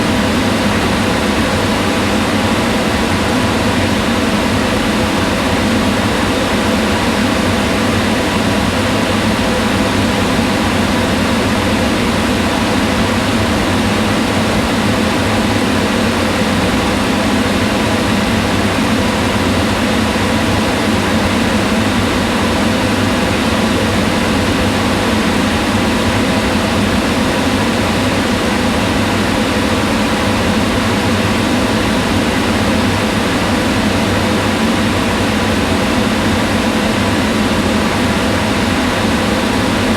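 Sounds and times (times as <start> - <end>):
range hood fan humming: 0.0 - 39.9.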